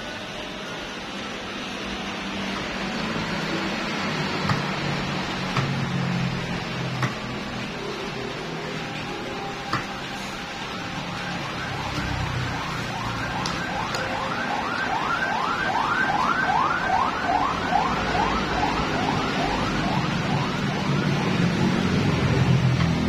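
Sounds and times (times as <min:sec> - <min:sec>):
electronic siren whooping: 0:03.0 - 0:22.7.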